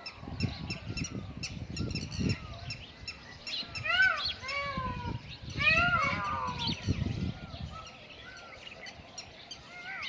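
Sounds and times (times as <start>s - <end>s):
wind on microphone: 0.0s - 9.6s
birds chirping: 0.0s - 10.0s
peafowl loud arching calls: 0.0s - 10.0s.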